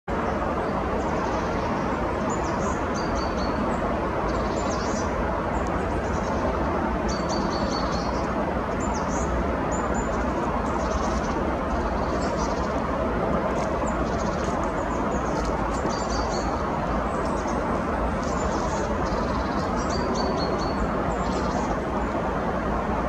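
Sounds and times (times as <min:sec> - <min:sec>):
steady rushing noise: 0:00.1 - 0:23.0
small birds chirping: 0:00.6 - 0:22.3.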